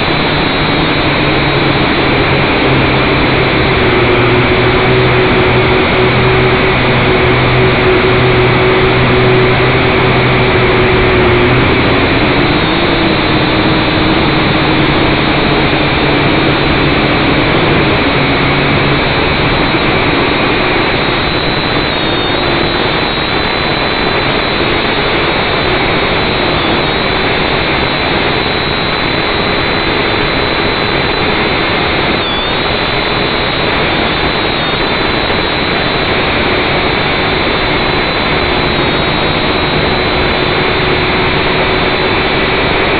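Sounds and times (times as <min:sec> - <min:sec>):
drone motors whirring: 0:00.0 - 0:42.9.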